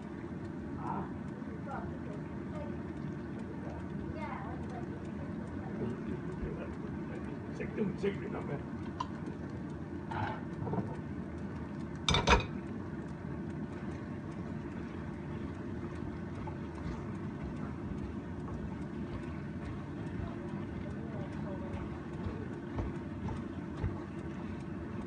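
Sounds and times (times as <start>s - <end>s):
low stove rumble: 0.0s - 25.0s.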